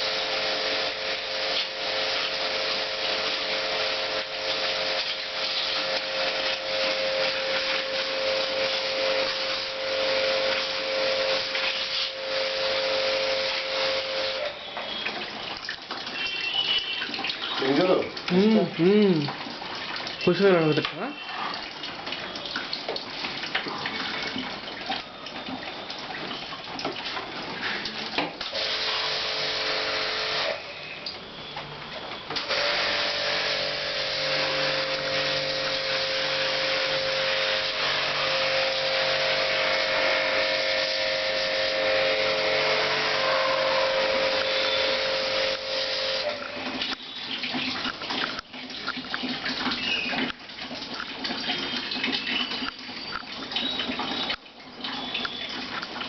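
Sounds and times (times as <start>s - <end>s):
pump motor hum and spray hiss: 0.0s - 54.5s
water splashing and running: 0.0s - 56.0s.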